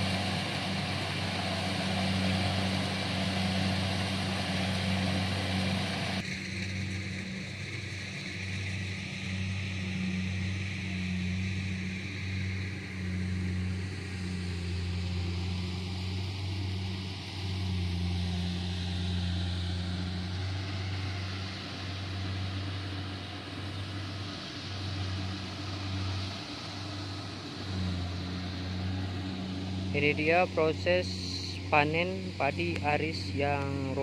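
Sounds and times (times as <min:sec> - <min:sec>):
combine harvester engine running: 0:00.0 - 0:34.0.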